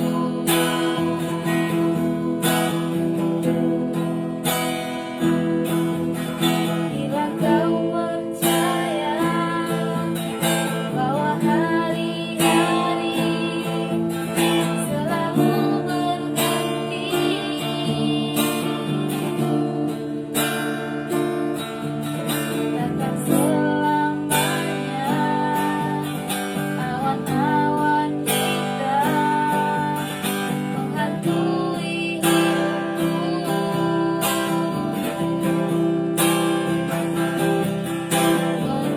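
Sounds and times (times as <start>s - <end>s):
woman singing with vibrato: 0.0s - 21.4s, 22.0s - 38.9s
strummed acoustic guitar: 0.0s - 38.9s.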